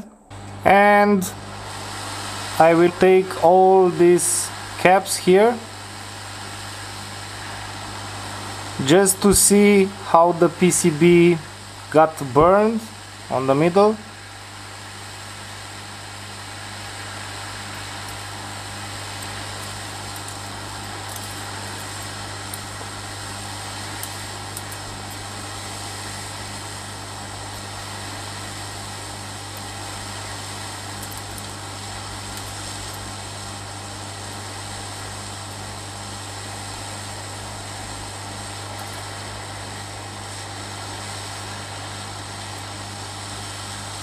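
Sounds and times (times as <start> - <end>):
hot air station blowing: 0.0 - 44.0.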